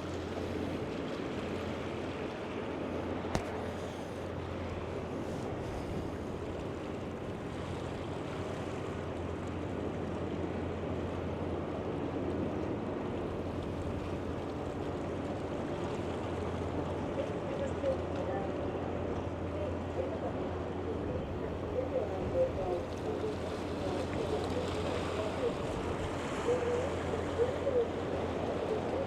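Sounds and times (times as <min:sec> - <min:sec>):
low boat engine hum: 0:00.0 - 0:29.0
water: 0:00.0 - 0:29.0.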